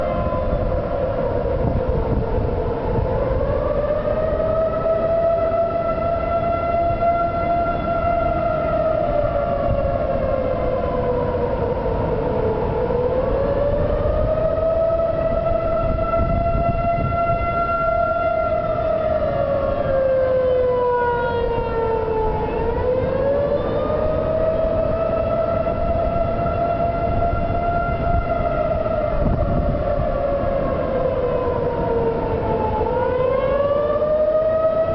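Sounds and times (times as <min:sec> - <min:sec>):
tornado warning siren wailing: 0:00.0 - 0:34.9.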